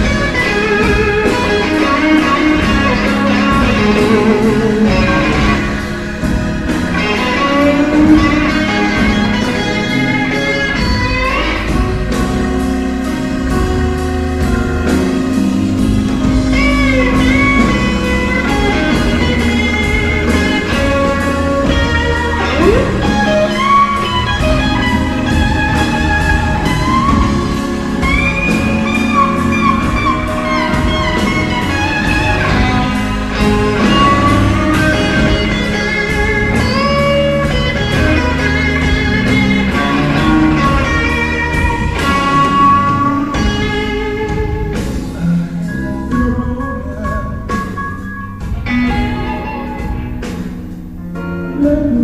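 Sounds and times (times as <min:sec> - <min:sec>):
bass guitar: 0:00.0 - 0:52.0
drums: 0:00.0 - 0:52.0
electric blues guitar: 0:00.0 - 0:52.0.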